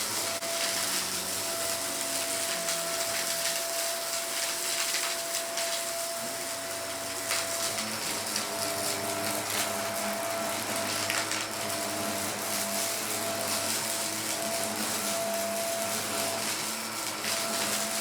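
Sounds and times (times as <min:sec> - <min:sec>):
vacuum cleaner whine: 0:00.0 - 0:18.0.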